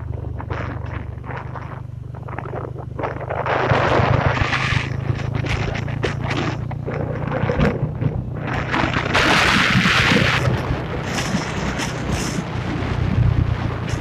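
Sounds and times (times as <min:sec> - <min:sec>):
motorbike engine running: 0:00.0 - 0:14.0
wind buffeting microphone: 0:00.0 - 0:14.0.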